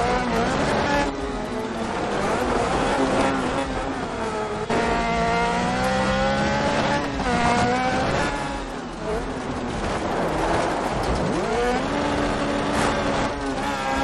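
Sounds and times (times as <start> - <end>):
buggy engine accelerating: 0.0 - 14.0.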